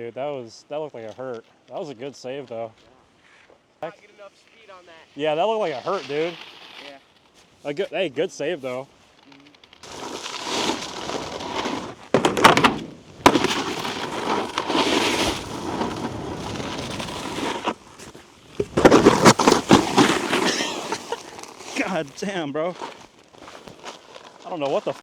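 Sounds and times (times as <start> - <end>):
snowboard scraping over icy snow: 4.7 - 25.0.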